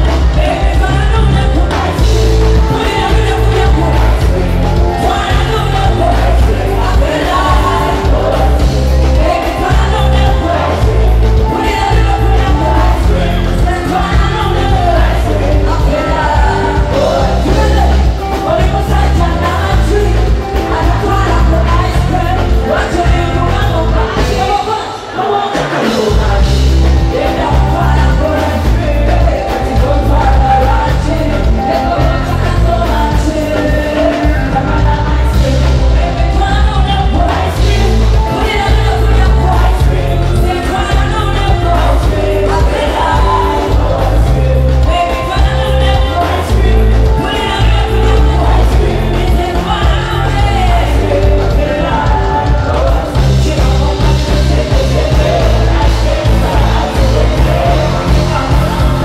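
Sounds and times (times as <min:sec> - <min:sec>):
band with heavy bass: 0:00.0 - 0:59.0
woman singing into a microphone: 0:00.0 - 0:59.0.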